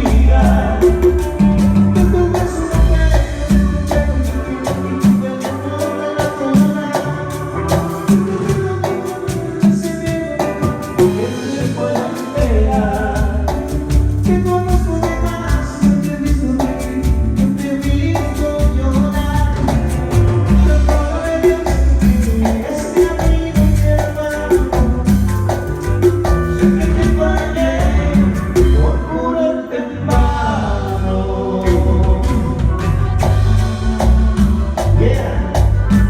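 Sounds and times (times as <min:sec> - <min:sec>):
heavy bass line: 0:00.0 - 0:36.0
keyboard melody: 0:00.0 - 0:36.0
latin dance music with singing: 0:00.0 - 0:36.0.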